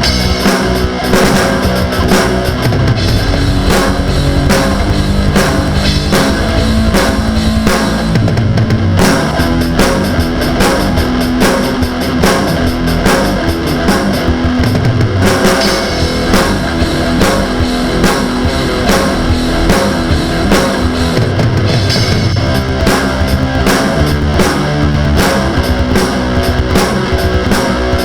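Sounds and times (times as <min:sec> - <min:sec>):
distorted rock guitar: 0:00.0 - 0:28.0
drum kit beat: 0:00.0 - 0:28.0.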